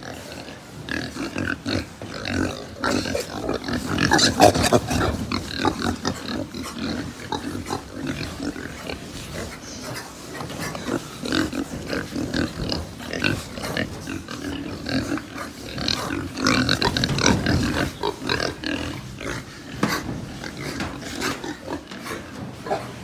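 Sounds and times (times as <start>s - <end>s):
young pigs calling: 0.0s - 23.0s.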